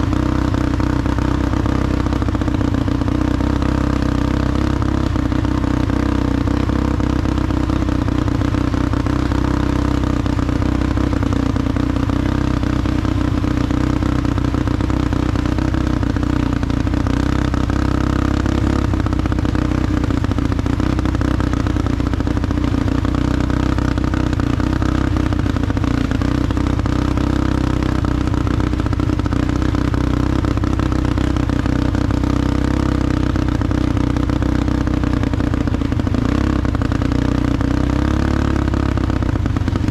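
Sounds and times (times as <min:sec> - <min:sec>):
small vehicle engine running: 0:00.0 - 0:39.9.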